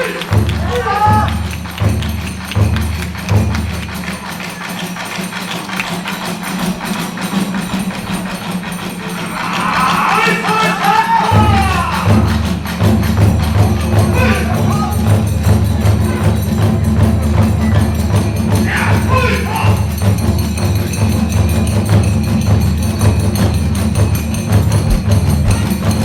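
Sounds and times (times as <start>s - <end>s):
hand cymbals clashing: 0.0s - 26.0s
taiko drums beating fast rhythm: 0.0s - 26.0s.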